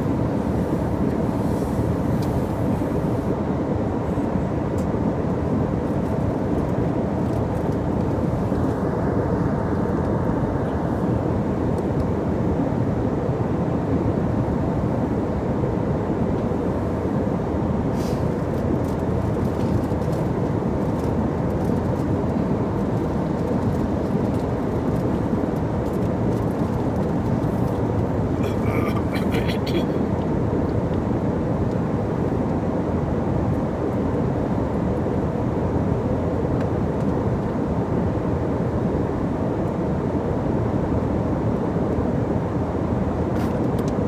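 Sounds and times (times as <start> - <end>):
jet engine cabin rumble: 0.0 - 44.0.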